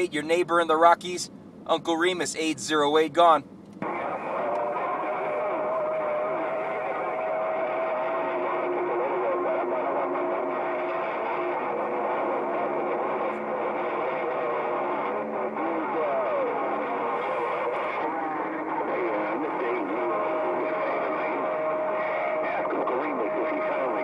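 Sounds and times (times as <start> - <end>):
distorted radio voices: 0.0 - 24.0
radio static: 0.0 - 24.0
whistling radio tones: 3.8 - 24.0.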